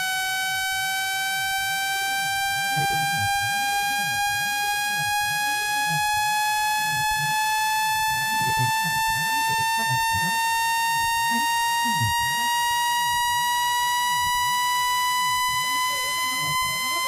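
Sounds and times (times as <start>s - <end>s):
electronic tone rising in pitch: 0.0s - 17.0s.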